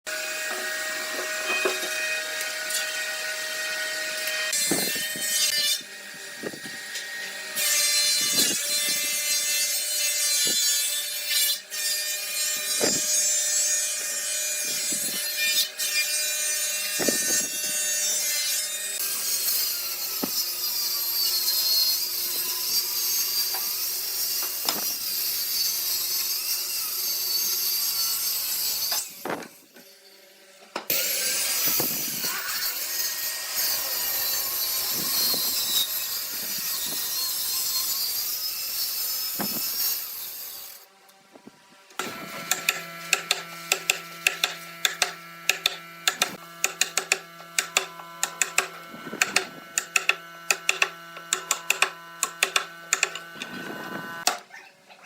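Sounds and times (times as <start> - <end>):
power tool motor whine: 0.1 - 9.2, 12.2 - 54.3.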